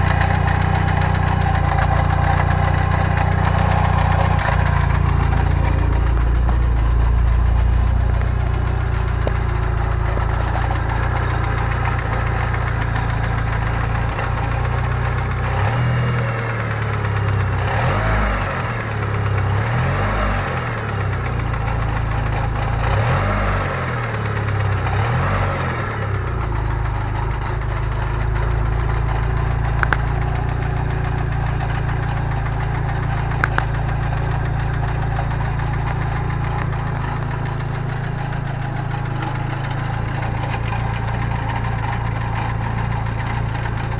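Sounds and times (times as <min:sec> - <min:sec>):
rattling car engine revving: 0:00.0 - 0:43.9.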